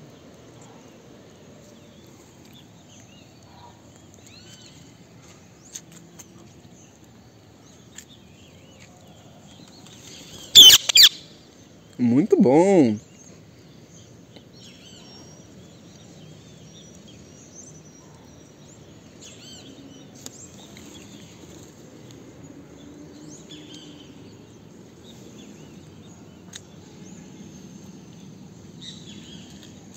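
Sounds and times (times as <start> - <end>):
birds chirping: 0.0 - 29.9
low background noise: 0.0 - 29.9.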